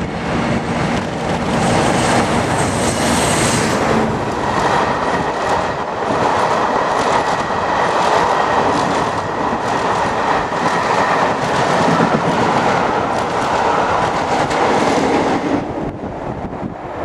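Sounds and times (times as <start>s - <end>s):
diesel locomotive passing: 0.0s - 17.0s
train rushing past: 0.0s - 17.0s.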